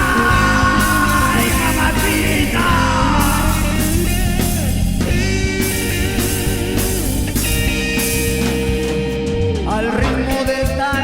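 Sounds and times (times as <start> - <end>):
bass: 0.0 - 11.0
distorted electric guitar: 0.0 - 11.0
drum kit: 0.0 - 11.0.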